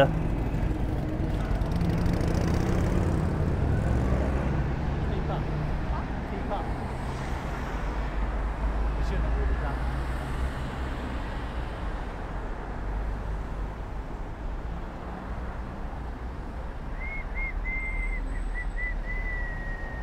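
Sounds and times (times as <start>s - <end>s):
low rumbling vehicle noise: 0.0s - 20.0s.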